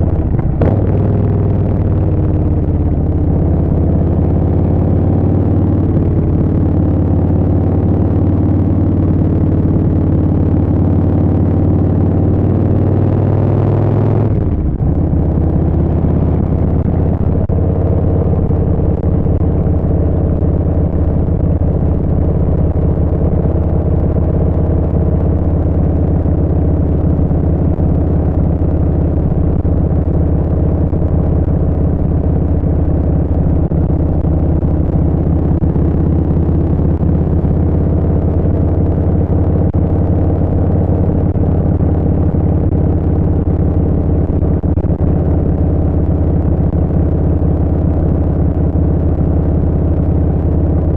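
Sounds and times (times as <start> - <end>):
motorcycle engine while riding: 0.0 - 50.9.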